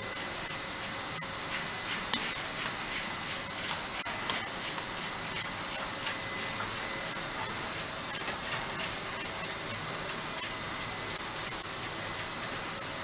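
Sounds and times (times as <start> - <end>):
conveyor machine hiss: 0.0 - 13.0
high machine whine: 0.0 - 13.0.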